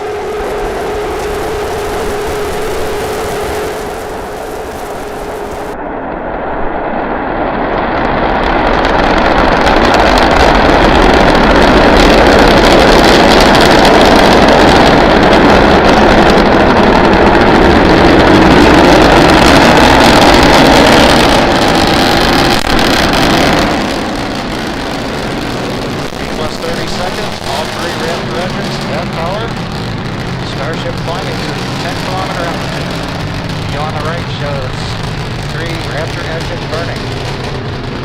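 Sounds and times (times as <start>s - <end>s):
rocket engines firing: 0.0s - 38.0s.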